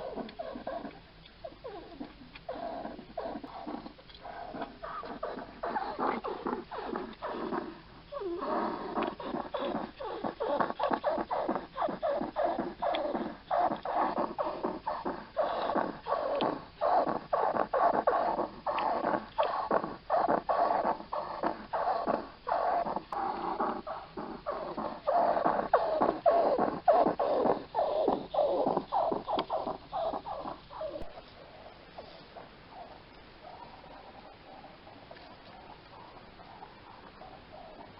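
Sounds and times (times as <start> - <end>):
hedgehog rasping breathing: 0.0 - 31.1.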